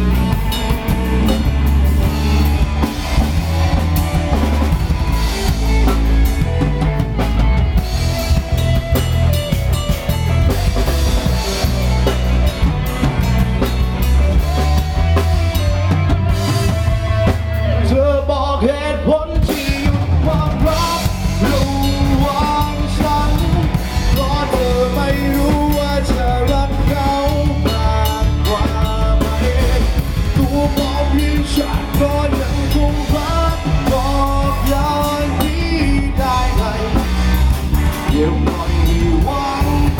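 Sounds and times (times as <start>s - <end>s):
pop-rock band music: 0.0s - 39.9s.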